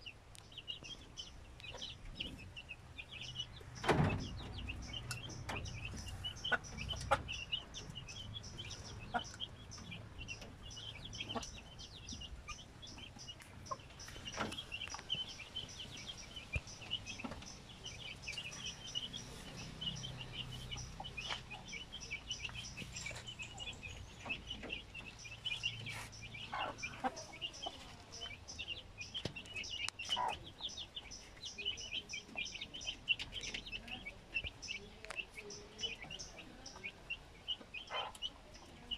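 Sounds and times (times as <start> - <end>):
birds chirping rapidly: 0.0 - 38.9.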